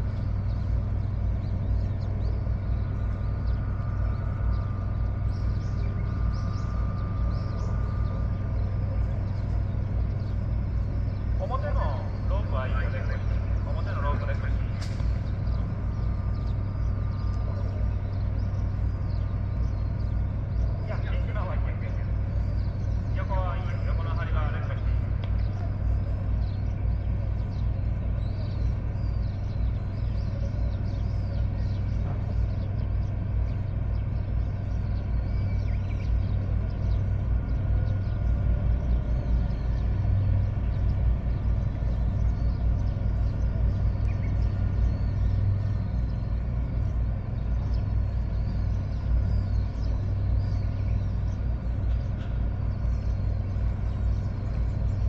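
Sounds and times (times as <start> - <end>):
boat engine humming: 0.0 - 55.0
faint bird chirps: 0.0 - 55.0.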